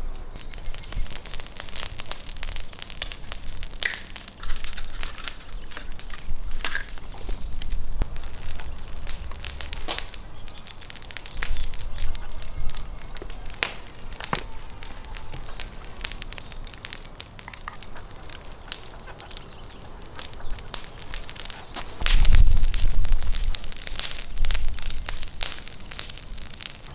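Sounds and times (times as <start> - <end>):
wet clicks and crackles: 1.9 - 26.9.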